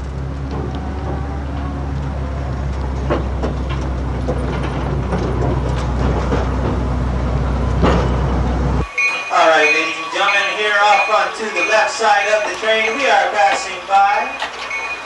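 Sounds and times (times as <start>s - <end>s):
wheels clicking over rail joints: 0.0s - 8.8s, 10.2s - 15.0s
train wheels rumbling: 0.0s - 15.0s.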